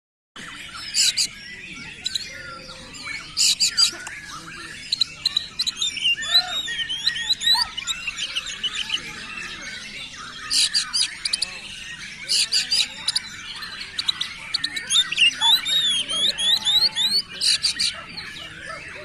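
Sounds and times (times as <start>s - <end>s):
bird singing whistled trills: 0.4s - 19.0s.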